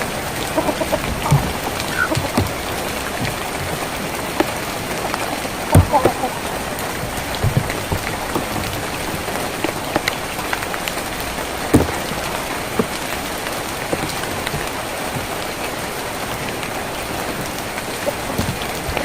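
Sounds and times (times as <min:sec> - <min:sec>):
rain on a tin roof: 0:00.0 - 0:19.0.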